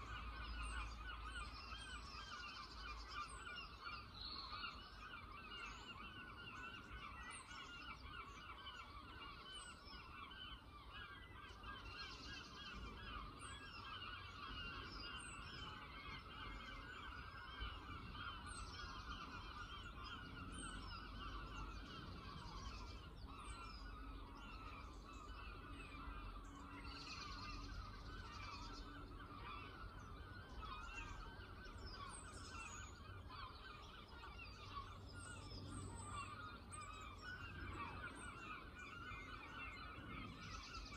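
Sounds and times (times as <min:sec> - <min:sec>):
flock of birds chattering: 0:00.0 - 0:40.9.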